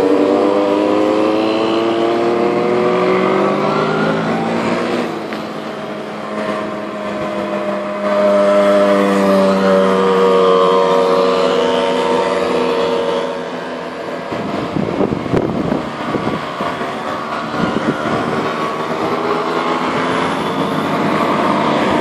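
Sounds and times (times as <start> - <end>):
mopeds and motorcycles passing: 0.0 - 22.0.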